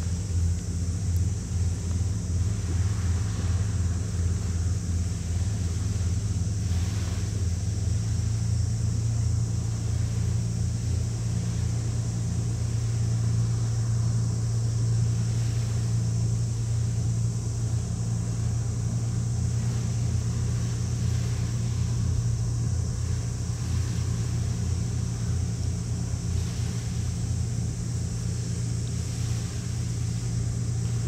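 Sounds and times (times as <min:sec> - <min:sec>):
ship engines droning: 0:00.0 - 0:31.0.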